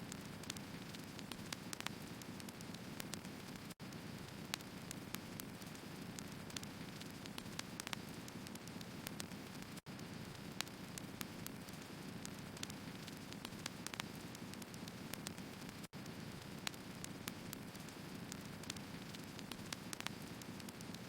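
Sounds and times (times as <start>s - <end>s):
logs crackling and popping: 0.0s - 21.0s.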